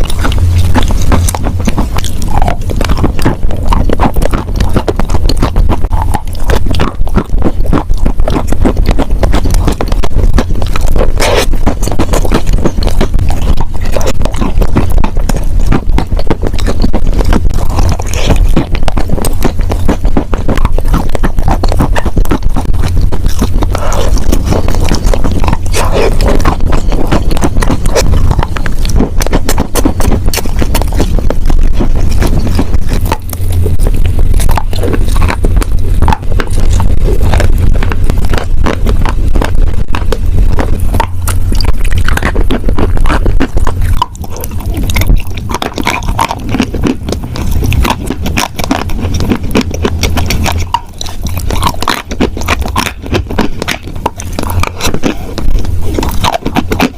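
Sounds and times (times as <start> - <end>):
crunching wet chalk: 0.0 - 56.9.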